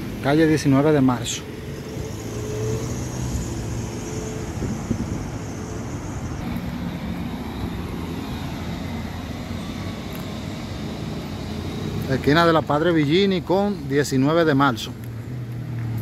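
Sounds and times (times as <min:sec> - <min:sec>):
car engine hum passing: 0:00.0 - 0:16.0
street traffic noise: 0:00.0 - 0:16.0.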